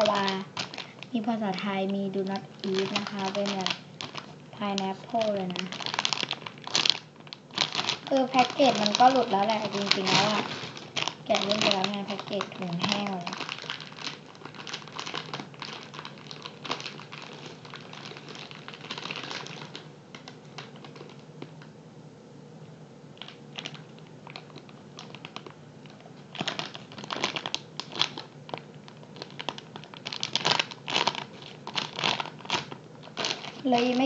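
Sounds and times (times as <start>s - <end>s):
plastic bag crinkling: 0.0s - 21.7s, 23.2s - 34.0s.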